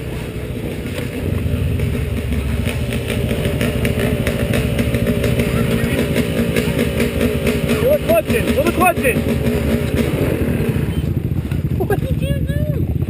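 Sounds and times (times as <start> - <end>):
atv engine at low revs: 0.0 - 13.0.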